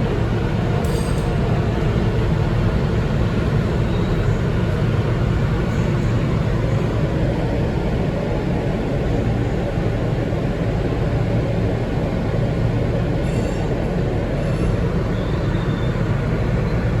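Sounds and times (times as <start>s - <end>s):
subway train rumbling on track: 0.0s - 17.0s.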